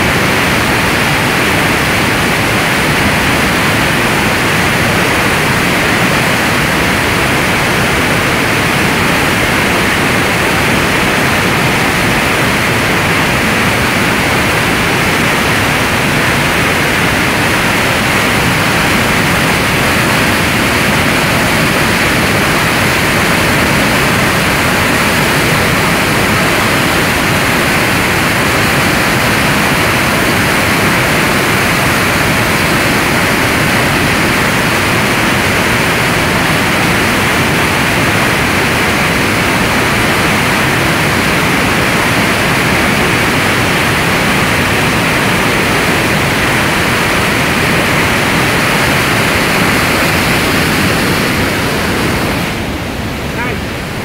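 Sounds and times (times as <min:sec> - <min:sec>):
torrent of water rushing: 0:00.0 - 0:54.0.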